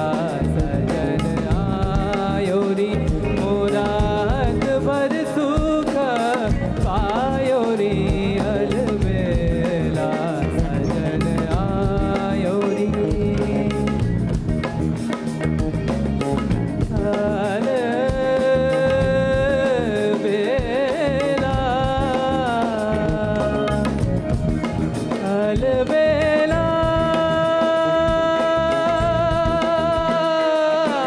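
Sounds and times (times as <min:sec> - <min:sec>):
man singing classical music: 0:00.0 - 0:14.2, 0:16.9 - 0:24.1, 0:25.1 - 0:31.0
instrumental accompaniment with drums: 0:00.0 - 0:31.0.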